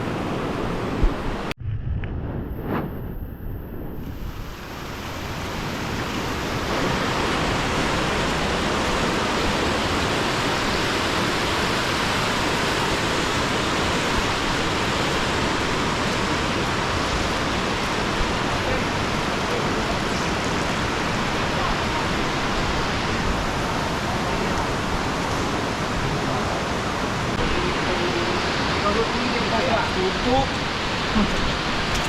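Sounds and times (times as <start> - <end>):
waterfall rushing: 4.2 - 32.0.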